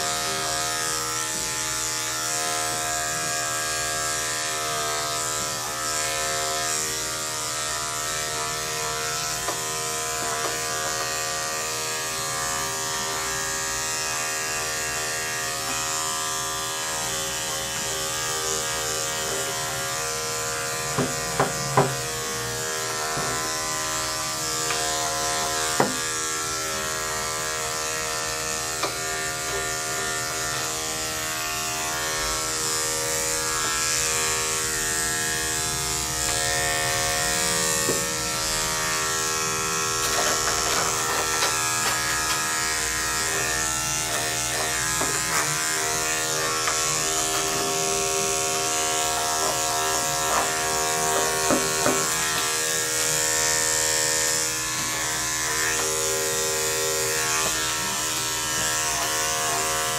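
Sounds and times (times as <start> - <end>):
electric clippers buzzing: 0.0 - 59.9.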